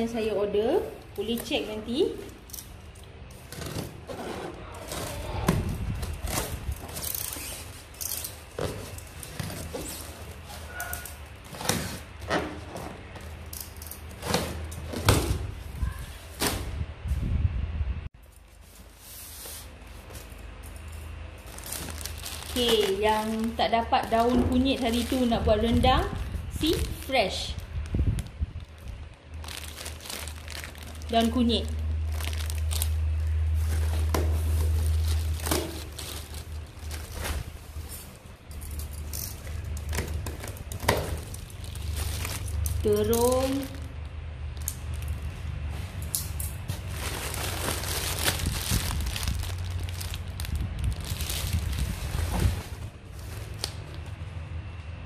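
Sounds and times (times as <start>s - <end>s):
plastic bags rustling: 0.0s - 16.8s, 18.2s - 54.5s.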